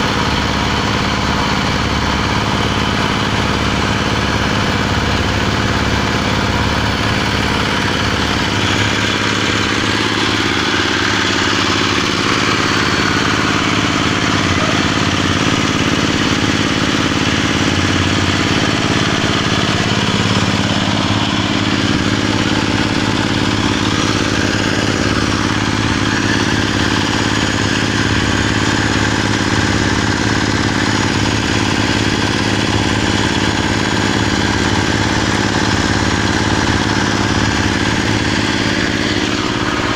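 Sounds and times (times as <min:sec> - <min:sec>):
paddle mixer churning soil: 0:00.0 - 0:39.9
small engine running under load: 0:00.0 - 0:39.9.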